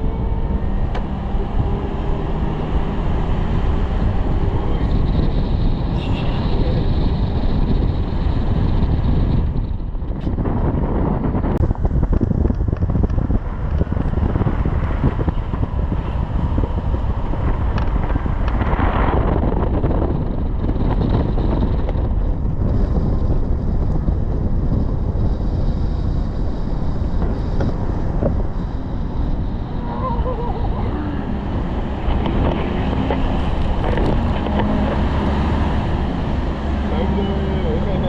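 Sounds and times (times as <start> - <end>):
steady low rumble: 0.0 - 38.0
wind buffeting microphone: 0.0 - 38.0.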